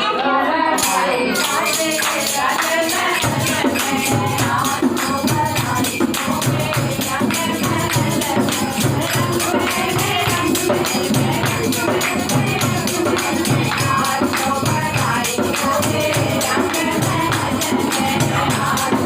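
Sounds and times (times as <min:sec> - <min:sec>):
group devotional singing: 0:00.0 - 0:19.0
jingling hand percussion: 0:00.0 - 0:19.0
hand drum beat: 0:01.4 - 0:19.0.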